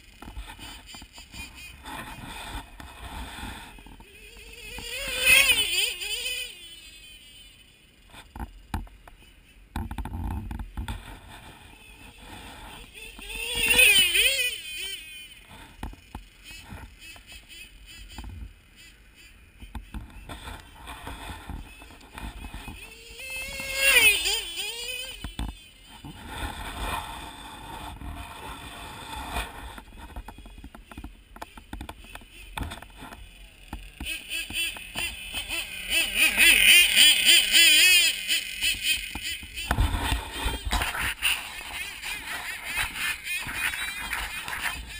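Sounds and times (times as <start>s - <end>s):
snowmobile engine revving: 0.0s - 8.3s, 10.8s - 30.7s, 31.3s - 44.9s.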